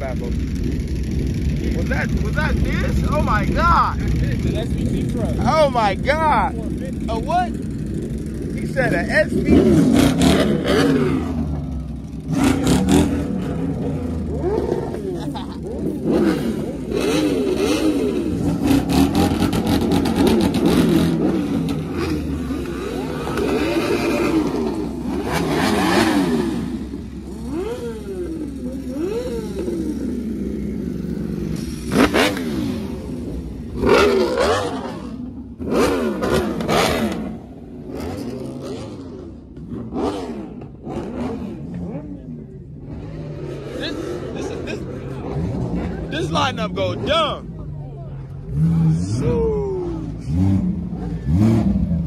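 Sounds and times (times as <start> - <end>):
motorcycles revving: 0.0 - 52.0.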